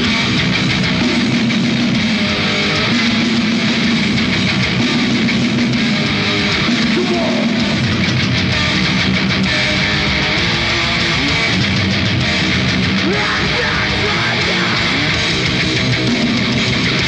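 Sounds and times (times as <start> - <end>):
bass guitar: 0.0 - 17.0
distorted electric guitar: 0.0 - 17.0
drums: 0.0 - 17.0.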